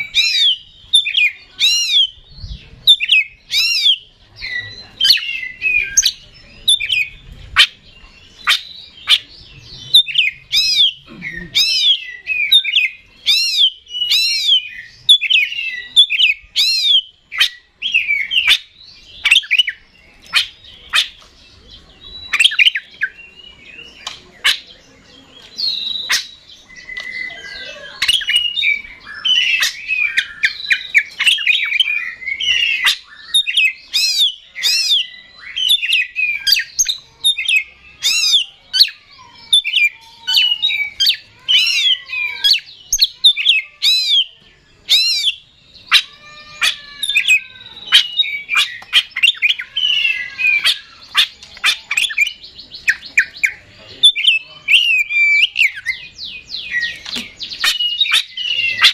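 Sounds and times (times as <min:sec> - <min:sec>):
bird singing whistles and chirps: 0:00.0 - 0:58.9.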